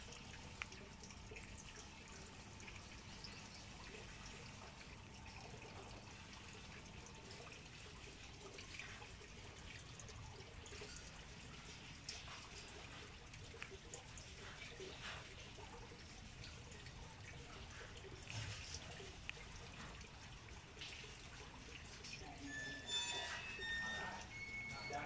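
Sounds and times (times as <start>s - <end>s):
tortoise chewing leaves: 0.0s - 24.6s.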